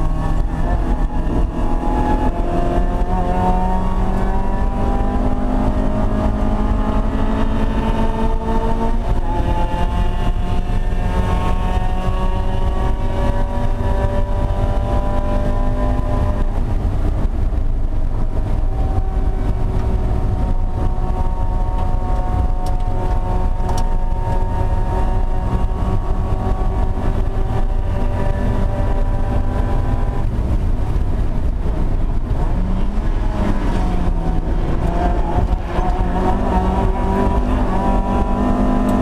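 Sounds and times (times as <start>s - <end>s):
engine running at high revs: 0.0s - 39.0s
road and wind noise: 0.0s - 39.0s.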